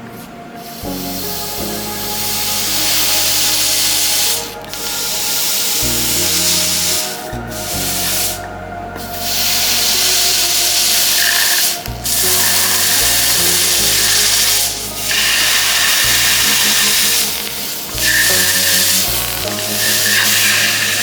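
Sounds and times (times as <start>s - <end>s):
background music with bass: 0.0s - 21.0s
hot iron hissing on ice: 0.6s - 8.4s, 9.0s - 21.0s.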